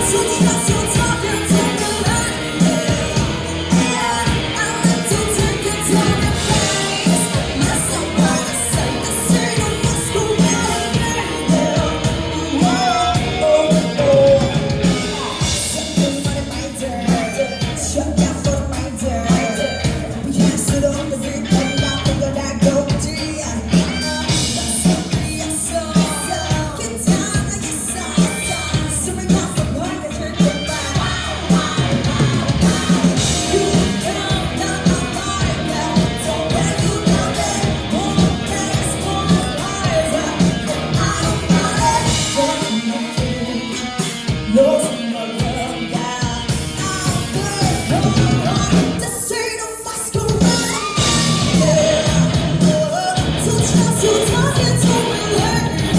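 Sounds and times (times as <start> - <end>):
rock band playing with singing: 0.0 - 55.9.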